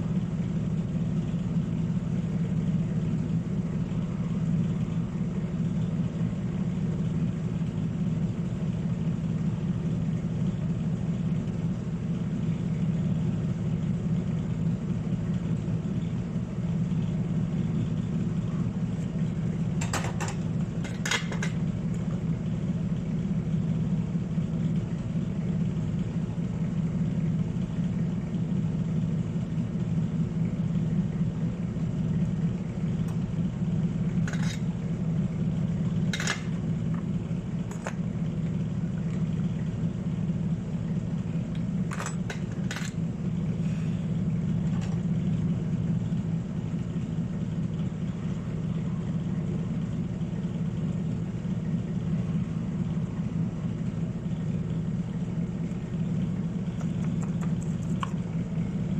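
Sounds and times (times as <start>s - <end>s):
low motor hum: 0.0s - 58.9s.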